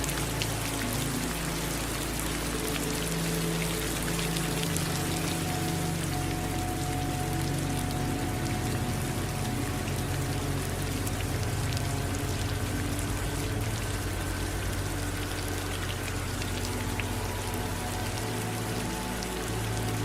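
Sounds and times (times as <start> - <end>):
low steady rumble: 0.0 - 20.0
rain drops ticking: 0.0 - 20.0.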